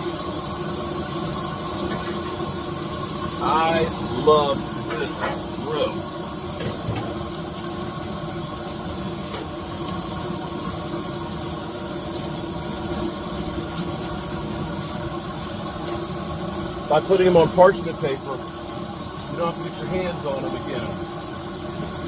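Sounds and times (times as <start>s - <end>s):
gas burner hissing rumble: 0.0s - 22.0s.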